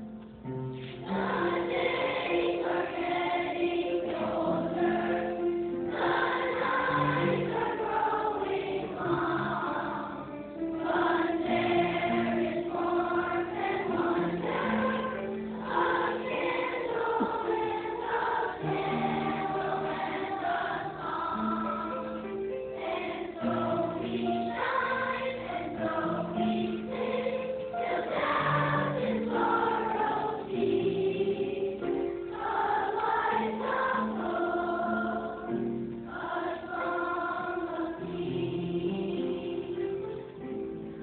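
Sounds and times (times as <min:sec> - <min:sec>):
children's choir singing: 0:00.9 - 0:41.0.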